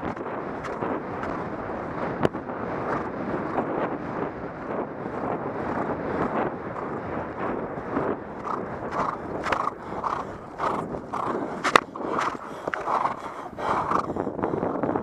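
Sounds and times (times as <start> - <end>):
horse strides on grass: 0.0 - 14.1.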